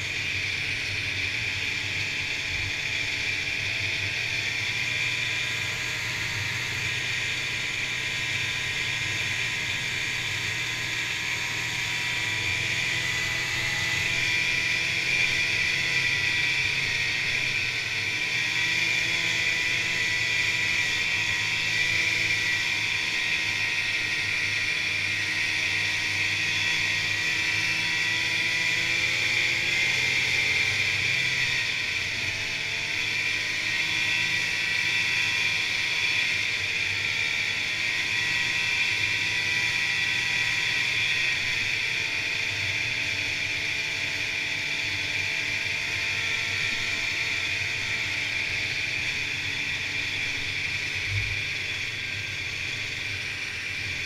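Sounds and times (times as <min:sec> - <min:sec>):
snowmobile engine and track running: 0:00.0 - 0:54.0.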